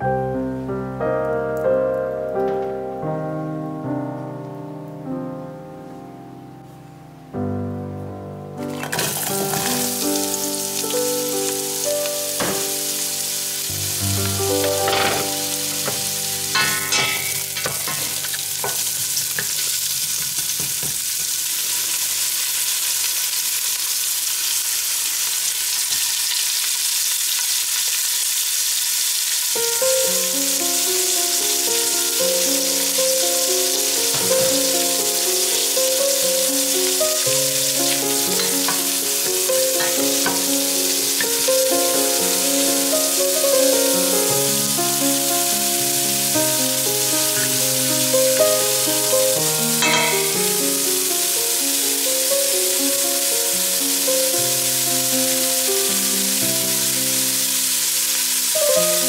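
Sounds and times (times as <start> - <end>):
onions sizzling in oil: 8.7 - 59.0.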